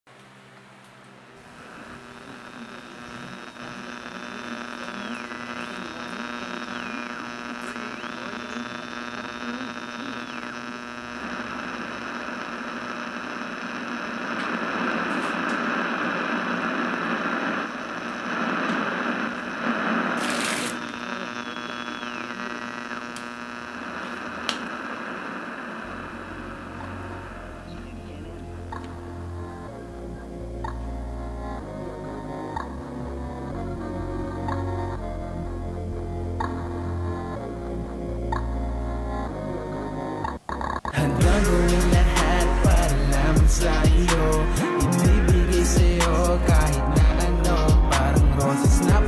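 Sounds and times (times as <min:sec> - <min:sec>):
electrical buzzing hum: 0:00.1 - 0:49.0.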